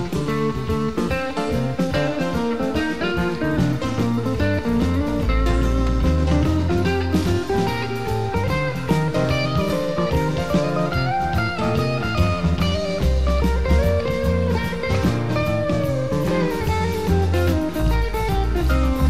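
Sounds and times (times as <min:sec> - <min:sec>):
band playing: 0:00.0 - 0:19.0
drums: 0:00.0 - 0:19.0
guitar notes: 0:00.0 - 0:19.0
low bass line: 0:00.0 - 0:19.0.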